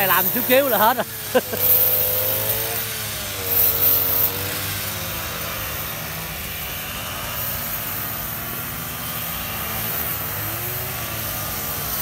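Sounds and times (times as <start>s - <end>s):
brush cutters cutting grass: 0.0s - 12.0s.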